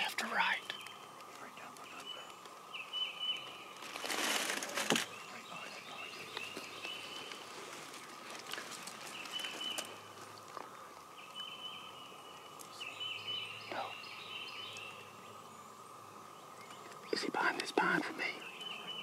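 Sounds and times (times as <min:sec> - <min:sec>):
bird chirping: 0:00.0 - 0:19.0
rustle of movement: 0:00.0 - 0:19.0.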